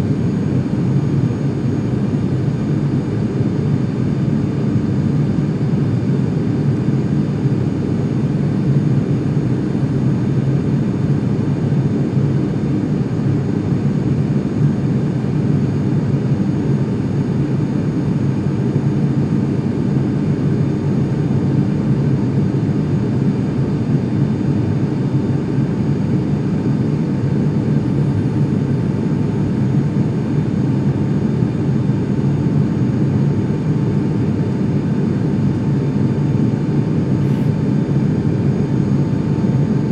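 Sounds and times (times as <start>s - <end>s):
propeller plane engine drone in cabin: 0.0s - 39.9s.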